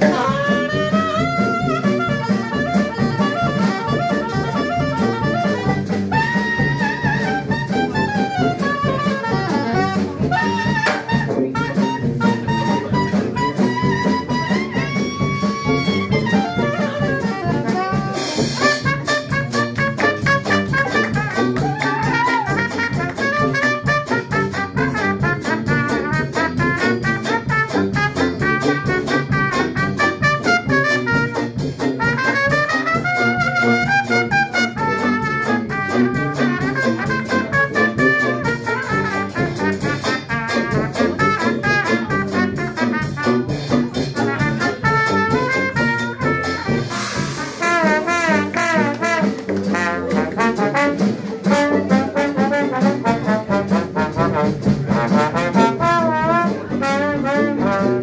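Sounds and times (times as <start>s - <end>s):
jazz band playing: 0.0s - 58.0s.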